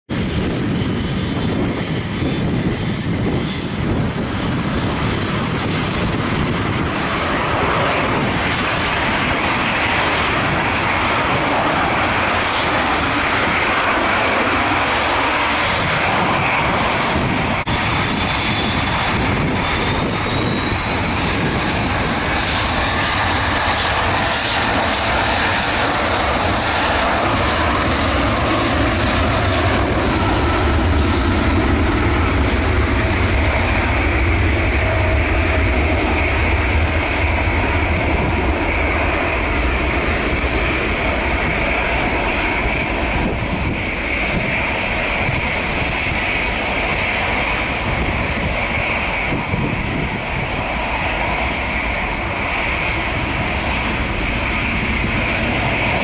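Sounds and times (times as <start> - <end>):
high engine whine: 0.1 - 56.0
jet engines spooling up: 0.1 - 56.0.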